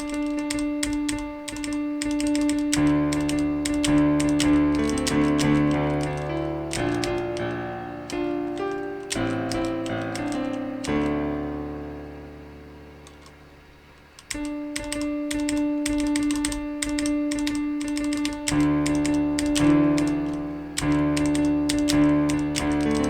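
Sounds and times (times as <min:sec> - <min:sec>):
computer keys clicking: 0:00.0 - 0:11.7, 0:13.0 - 0:23.0
piano notes: 0:00.0 - 0:23.0.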